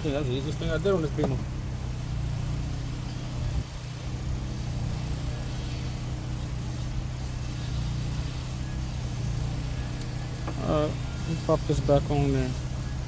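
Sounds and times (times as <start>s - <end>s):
engine running hum: 0.0s - 13.0s.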